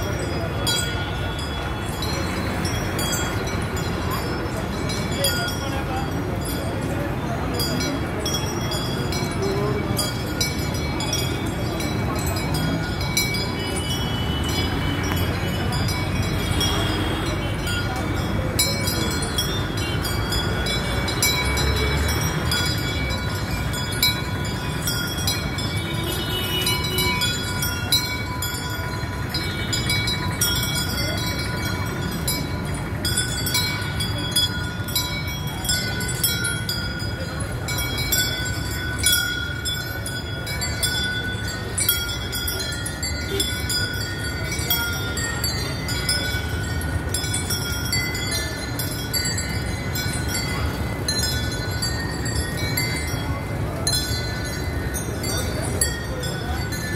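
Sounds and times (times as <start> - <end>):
sharp clinks: 0.0 - 56.9
street traffic and people: 0.0 - 56.9.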